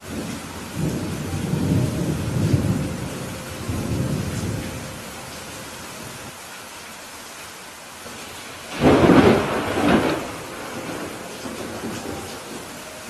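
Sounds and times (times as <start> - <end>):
thunder rumbling: 0.0 - 6.3, 8.2 - 13.0
steady rain: 0.0 - 13.0.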